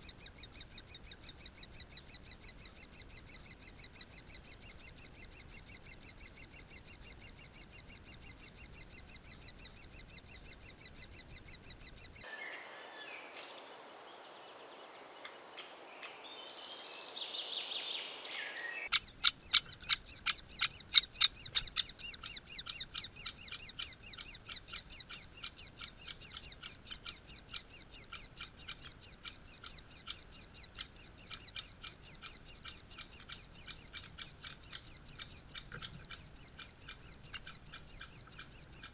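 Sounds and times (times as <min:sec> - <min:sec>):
woodpecker nestlings begging chatter: 0:00.0 - 0:12.3, 0:18.8 - 0:38.9
scattered bird chirps: 0:00.0 - 0:38.9.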